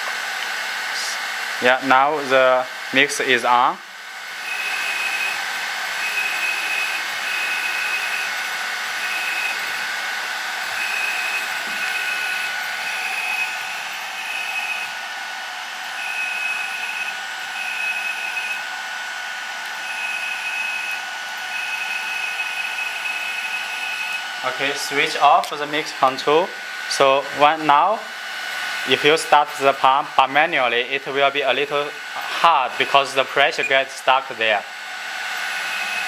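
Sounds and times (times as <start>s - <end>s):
hydraulic pump whining: 0.0s - 36.0s.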